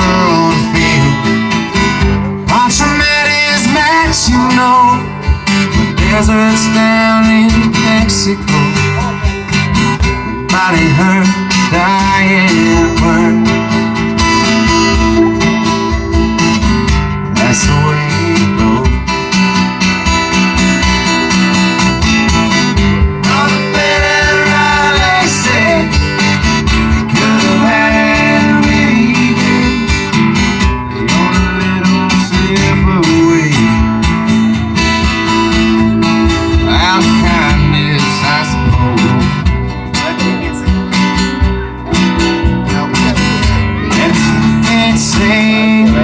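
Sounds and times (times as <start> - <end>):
acoustic guitar strumming: 0.0 - 46.0
bending guitar melody line: 0.0 - 46.0.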